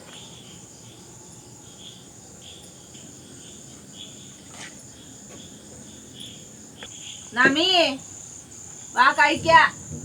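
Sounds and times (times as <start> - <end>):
crickets trilling: 0.0 - 10.0
lower cricket chirp: 0.0 - 10.0.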